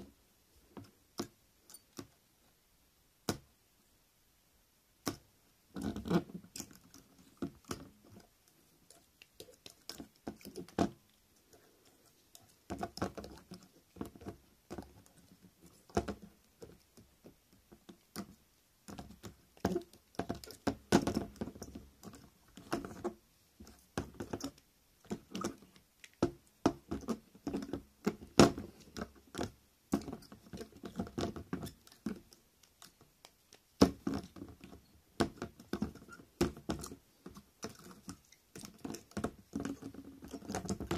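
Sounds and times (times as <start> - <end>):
wire figures clicking and scratching: 5.1 - 40.9.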